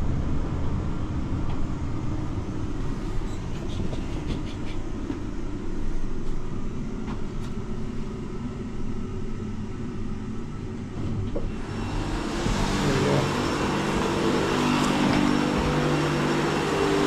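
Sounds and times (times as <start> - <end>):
lift cabin rumbling: 0.0 - 17.0.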